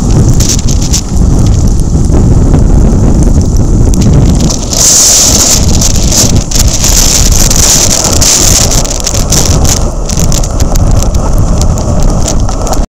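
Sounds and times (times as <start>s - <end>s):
rough surf hissing: 0.0s - 12.8s
wind buffeting microphone: 0.0s - 12.9s.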